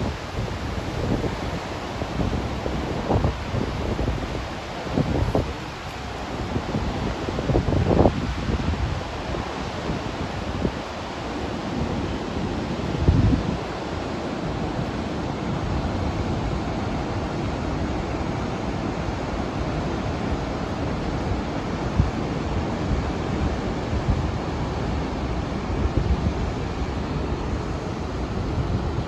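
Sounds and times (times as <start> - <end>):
waterfall roaring: 0.0 - 29.0
wind buffeting microphone: 0.0 - 29.0.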